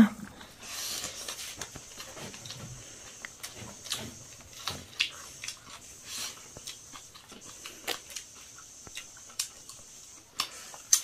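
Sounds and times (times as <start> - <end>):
chewing and lip smacks: 1.0 - 11.0.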